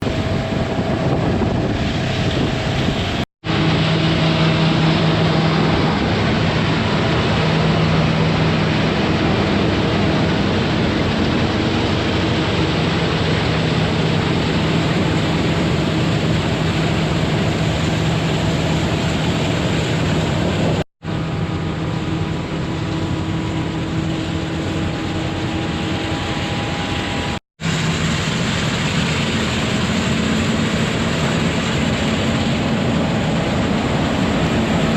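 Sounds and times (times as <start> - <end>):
combine harvester running: 0.0 - 34.9
wind on microphone: 0.0 - 34.9.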